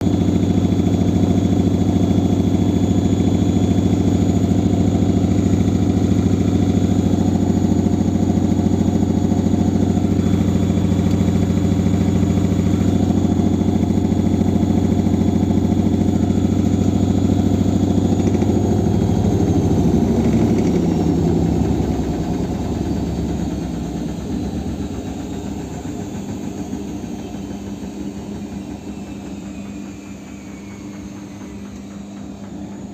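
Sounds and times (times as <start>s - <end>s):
washing machine spinning: 0.0s - 32.9s
high motor whine: 0.1s - 32.9s.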